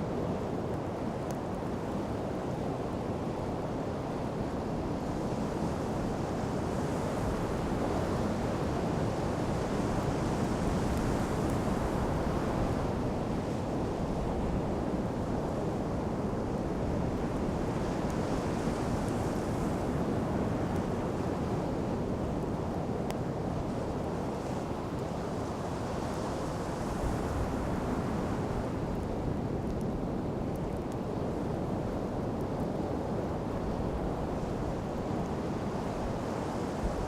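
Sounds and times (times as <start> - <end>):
ocean surf washing on beach: 0.0 - 37.0
wind rumble on microphone: 0.0 - 37.0.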